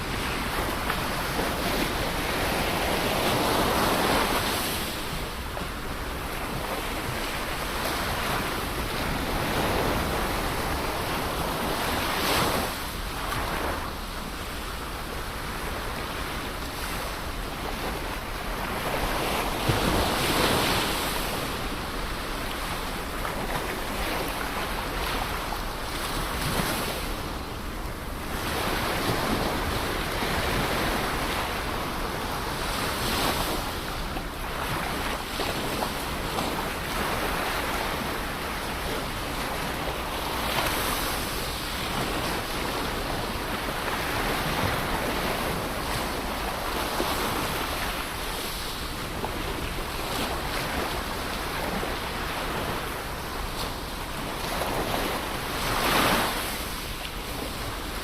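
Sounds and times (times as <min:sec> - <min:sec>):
ocean waves breaking on shore: 0:00.0 - 0:58.0
wind noise on microphone: 0:00.0 - 0:58.0.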